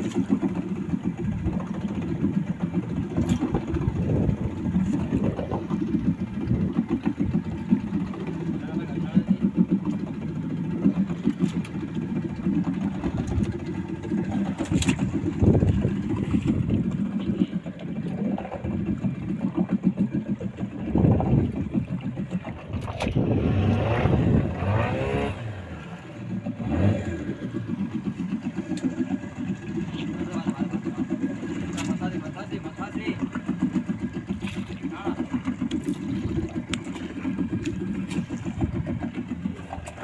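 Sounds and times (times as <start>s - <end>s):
outboard motor droning: 0.0s - 40.0s.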